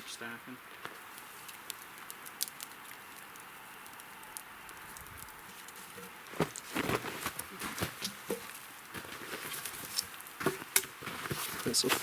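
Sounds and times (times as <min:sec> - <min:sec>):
logs knocking and crunching: 0:00.8 - 0:12.0.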